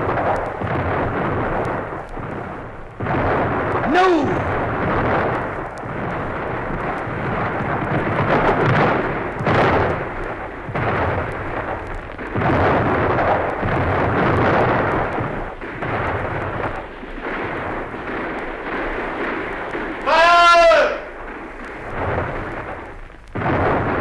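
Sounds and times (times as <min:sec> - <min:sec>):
massed musket and cannon fire: 0:00.0 - 0:24.0
sharp gunshot cracks: 0:00.0 - 0:24.0.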